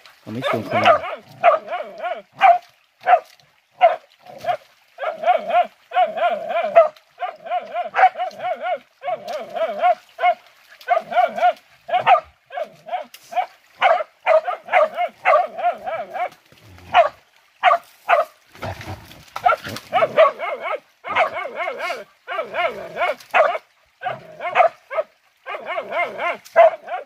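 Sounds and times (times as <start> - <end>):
dog barking and yelping: 0.3 - 3.2, 3.8 - 18.3, 19.4 - 27.0.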